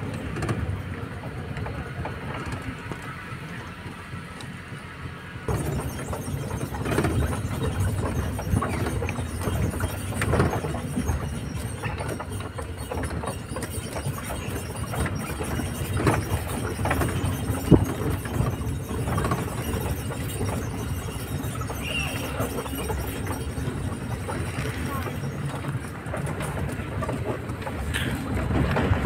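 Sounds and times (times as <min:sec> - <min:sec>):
engine and tyres rumbling: 0:00.0 - 0:29.0
vehicle rattles and knocks: 0:00.0 - 0:29.0.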